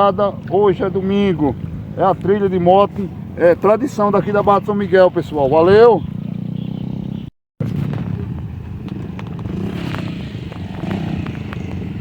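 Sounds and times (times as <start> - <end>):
dirt bike engines passing: 0.0 - 12.0.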